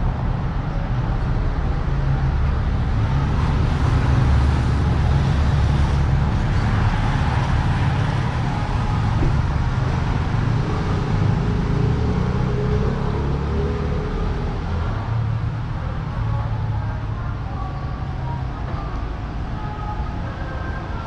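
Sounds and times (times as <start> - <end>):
cars and motorbikes passing: 0.0 - 21.0.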